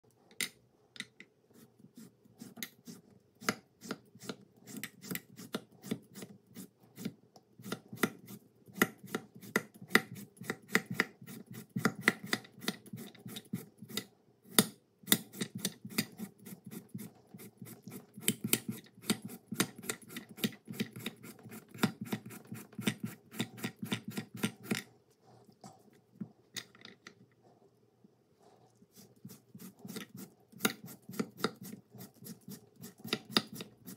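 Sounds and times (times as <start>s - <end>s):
knife cutting cucumber on board: 2.0s - 24.8s, 29.3s - 33.9s.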